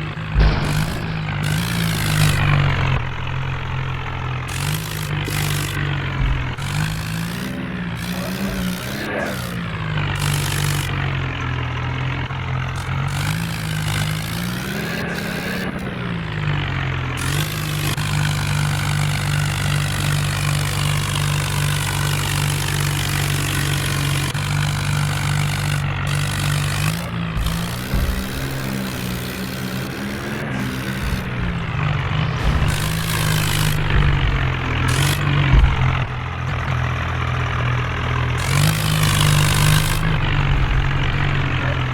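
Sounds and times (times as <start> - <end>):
tractor engine revving: 0.0 - 41.9.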